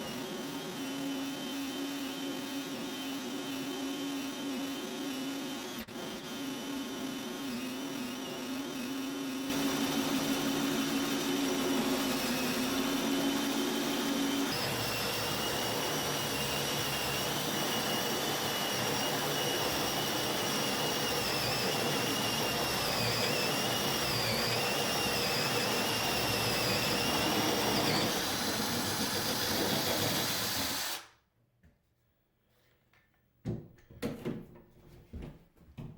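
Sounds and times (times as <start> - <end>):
drill motor whine cutting wood: 0.0 - 31.1.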